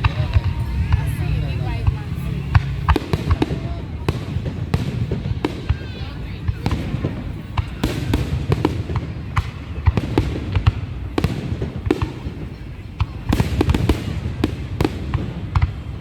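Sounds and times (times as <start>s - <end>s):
steady low rumble: 0.0s - 14.8s
fireworks bangs and cracks: 0.0s - 16.0s.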